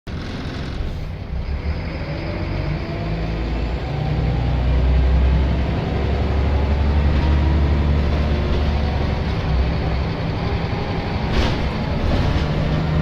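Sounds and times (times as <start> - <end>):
bus diesel engine droning: 0.1 - 13.0.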